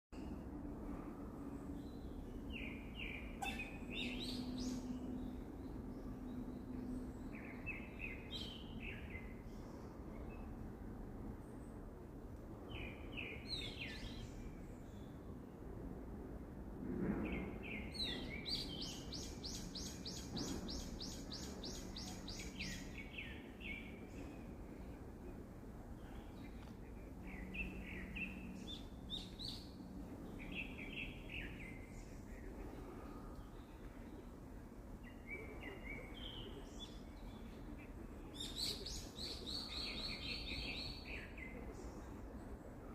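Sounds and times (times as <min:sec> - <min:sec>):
steady outdoor hiss: 0:00.2 - 0:42.9
songbird singing: 0:01.4 - 0:11.9, 0:12.6 - 0:15.8, 0:17.1 - 0:42.9.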